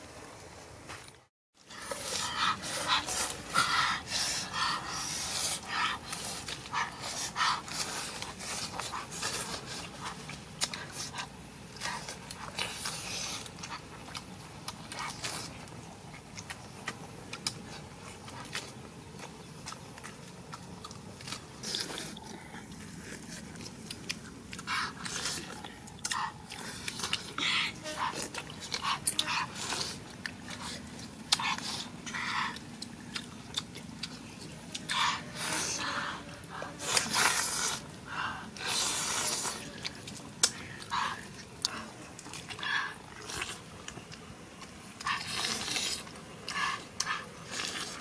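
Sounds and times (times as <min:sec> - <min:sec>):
crunching lettuce: 0:01.6 - 0:48.0.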